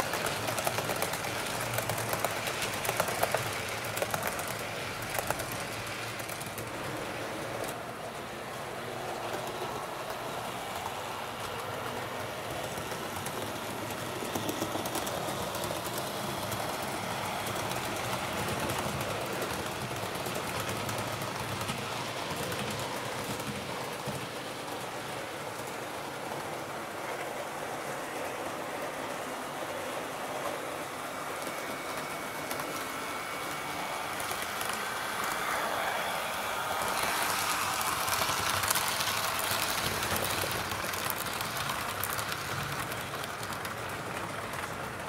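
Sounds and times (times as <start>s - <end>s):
model train rolling rattle: 0.0s - 45.0s.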